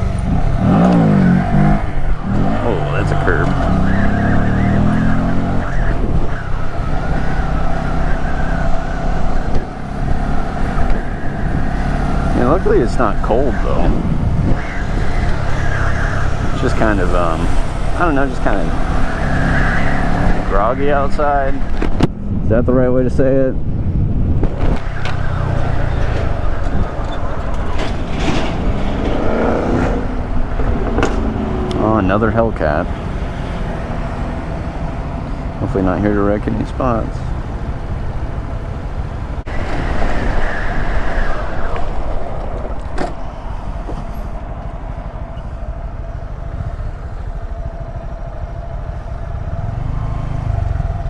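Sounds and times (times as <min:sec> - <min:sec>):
motorcycle engine running: 0:00.0 - 0:21.5, 0:24.0 - 0:39.5, 0:42.1 - 0:51.0
steady whine: 0:00.0 - 0:22.9, 0:24.2 - 0:51.0
wind and road noise: 0:00.0 - 0:51.0.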